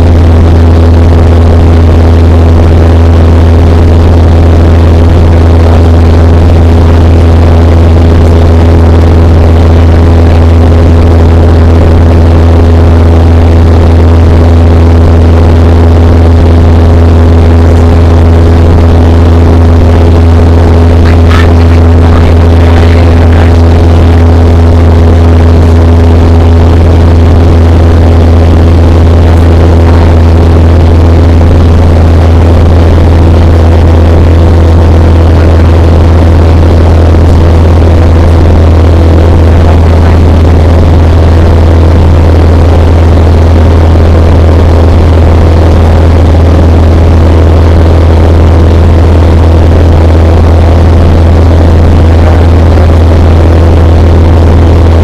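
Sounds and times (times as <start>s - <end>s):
airplane engine and propeller drone: 0.0s - 55.0s.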